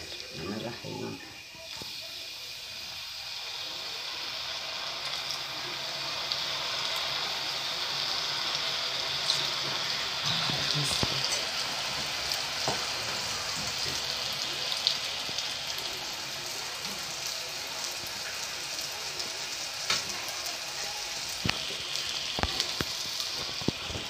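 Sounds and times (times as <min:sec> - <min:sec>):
batter sizzling in hot oil: 0:00.0 - 0:24.0.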